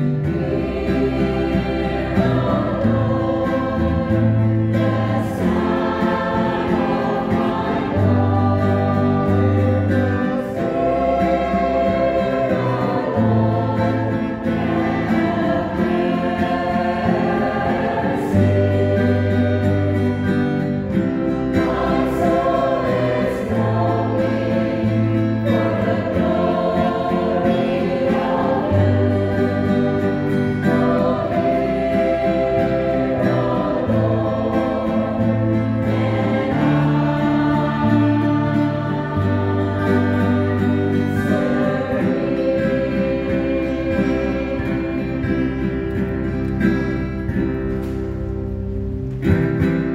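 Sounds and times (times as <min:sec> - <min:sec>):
choir singing a hymn: 0:00.0 - 0:48.2
held low bass notes: 0:00.0 - 0:49.9
strummed acoustic guitars: 0:00.0 - 0:49.9.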